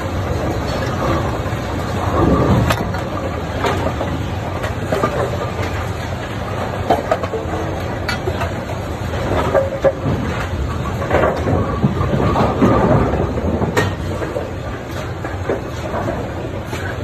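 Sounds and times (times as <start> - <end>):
pinsetter machinery rumbling: 0.0 - 17.0.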